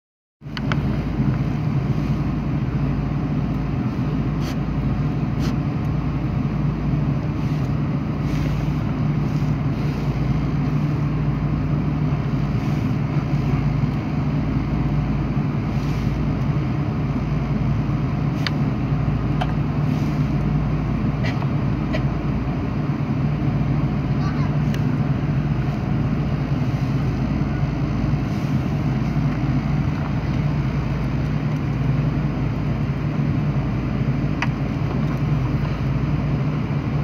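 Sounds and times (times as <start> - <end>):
aircraft cabin hum and rumble: 0.4 - 37.0.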